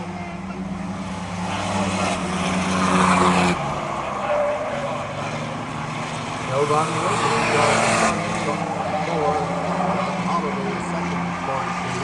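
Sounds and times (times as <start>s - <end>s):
race truck engines passing: 0.0s - 12.0s.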